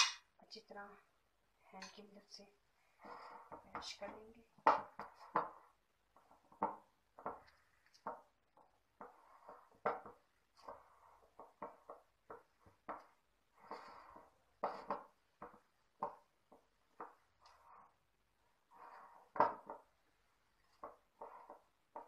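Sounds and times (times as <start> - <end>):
hands squishing soft food mixture: 2.8 - 22.0.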